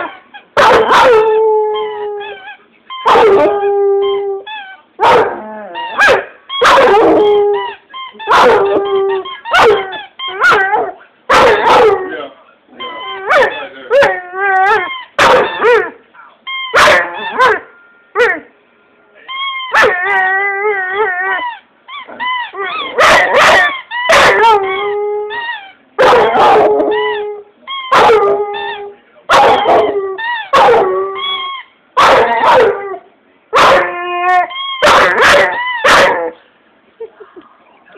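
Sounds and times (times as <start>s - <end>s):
dog barking and howling: 0.0s - 12.2s, 12.8s - 16.0s, 16.7s - 18.5s, 19.6s - 36.4s.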